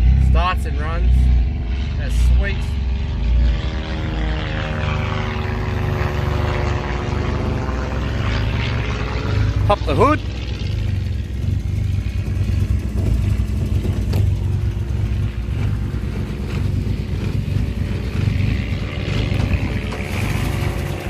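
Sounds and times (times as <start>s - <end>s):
car engine idling unevenly: 3.8s - 21.0s.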